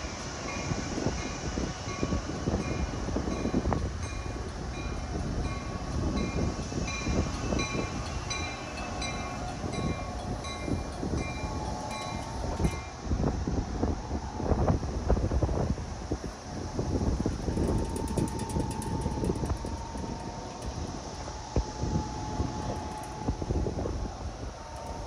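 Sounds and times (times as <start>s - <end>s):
train wheels rumbling on rails: 0.0s - 25.0s
train warning bell ringing: 0.4s - 13.0s, 17.3s - 25.0s.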